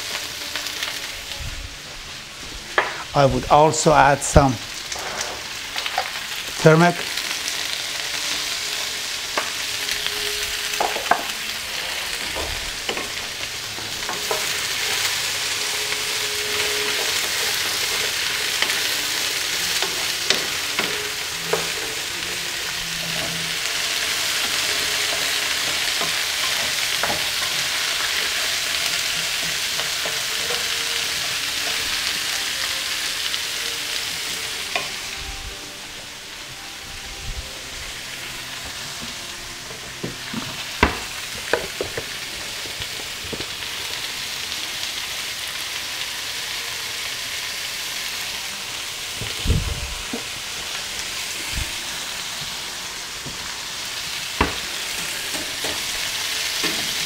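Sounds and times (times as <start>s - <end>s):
vegetables frying in hot oil: 0.0s - 36.5s, 37.2s - 57.0s.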